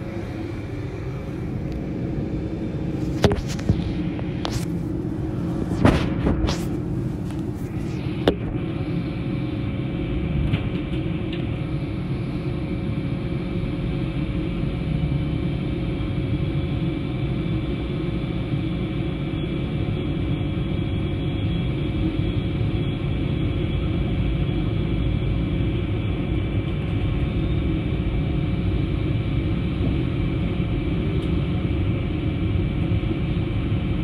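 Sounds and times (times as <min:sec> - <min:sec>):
diesel locomotive engine drone: 0:00.0 - 0:34.0
thin steady whine: 0:00.0 - 0:34.0.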